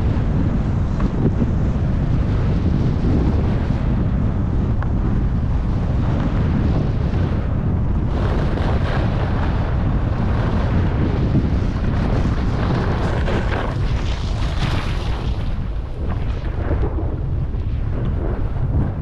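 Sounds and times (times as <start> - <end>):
skis carving over packed snow: 0.0 - 18.8
wind buffeting microphone: 0.0 - 19.0.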